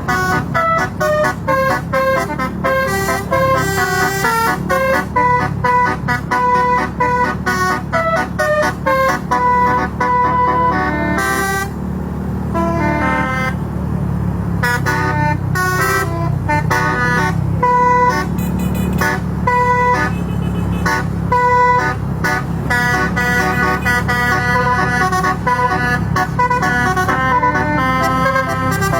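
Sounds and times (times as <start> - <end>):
musical horn playing tune: 0.0 - 11.8, 12.5 - 13.7, 14.5 - 28.9
engine rumble: 0.0 - 28.9.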